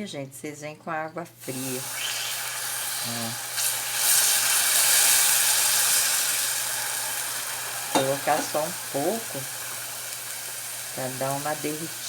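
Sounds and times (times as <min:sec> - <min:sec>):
water hissing on hot sugar: 0:01.4 - 0:12.0.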